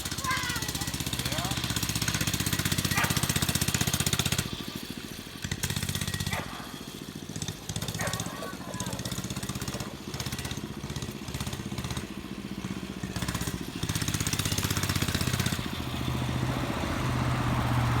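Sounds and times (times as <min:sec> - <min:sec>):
motorcycle engine pulsing: 0:00.0 - 0:18.0.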